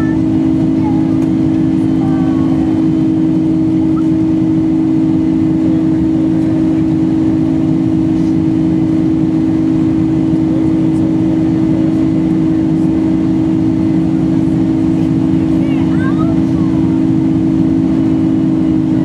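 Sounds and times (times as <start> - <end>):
jet engines droning: 0.0 - 19.0.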